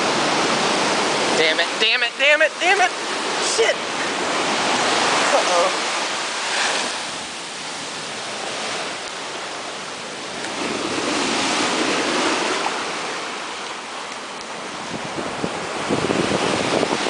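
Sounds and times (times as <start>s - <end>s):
ocean surf breaking: 0.0s - 17.0s.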